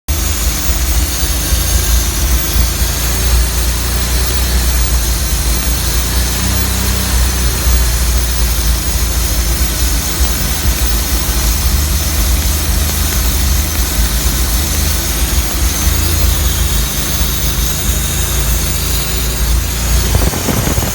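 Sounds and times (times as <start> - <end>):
engine idling: 0.1 - 20.9.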